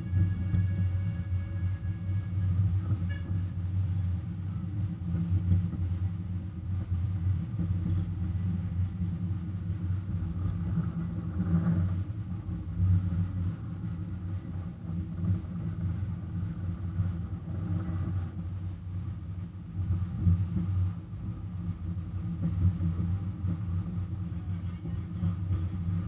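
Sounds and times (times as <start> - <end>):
miniature locomotive engine running: 3.5 - 26.0.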